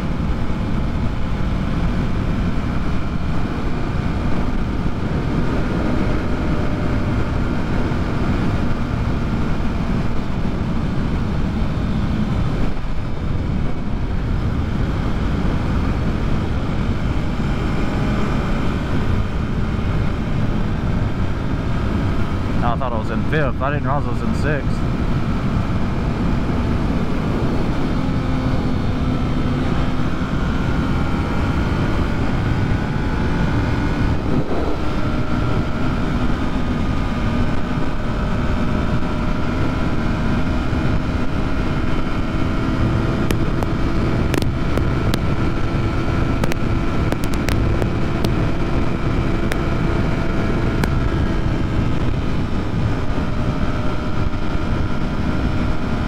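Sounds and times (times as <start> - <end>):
motorcycle cruising: 0.0 - 56.0
wind and road noise: 0.0 - 56.0.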